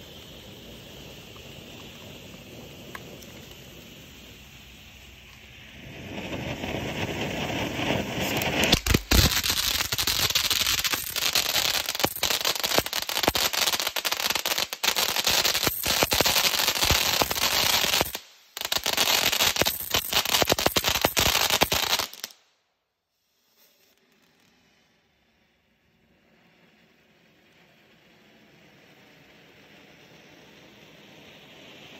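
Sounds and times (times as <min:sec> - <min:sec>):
firework fountain hissing and crackling: 0:00.0 - 0:22.4, 0:23.2 - 0:31.9.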